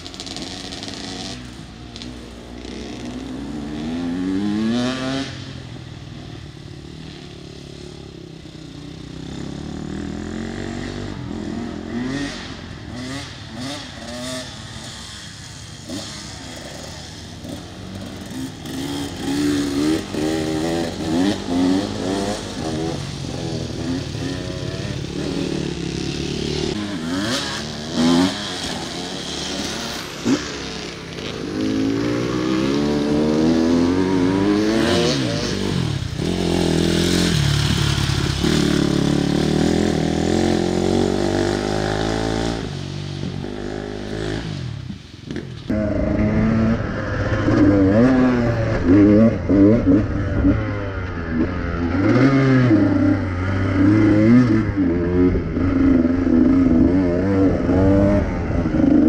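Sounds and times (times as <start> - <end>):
dirt bike engine revving: 0.0 - 6.2, 6.8 - 59.0.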